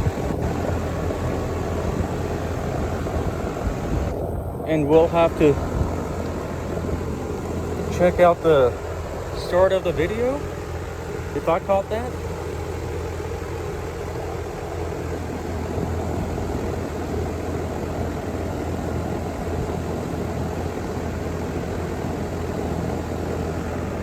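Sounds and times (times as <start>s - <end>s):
compressor humming: 0.0s - 24.0s
condenser fan air rushing: 0.0s - 24.0s.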